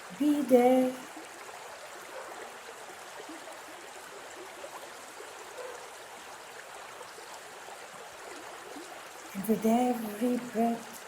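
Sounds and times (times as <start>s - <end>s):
stream flowing with bubbling: 0.0s - 11.0s.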